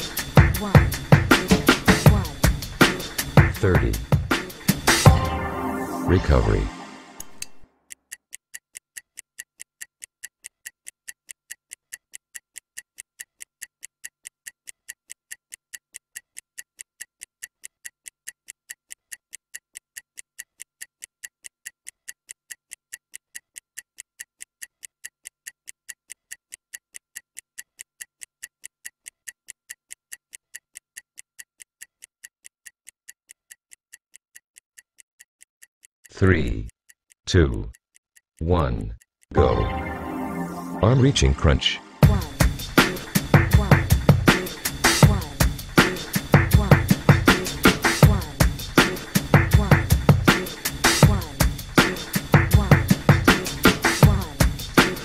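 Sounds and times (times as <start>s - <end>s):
stopwatch ticking: 0.0s - 5.2s, 7.2s - 39.4s, 42.0s - 55.0s.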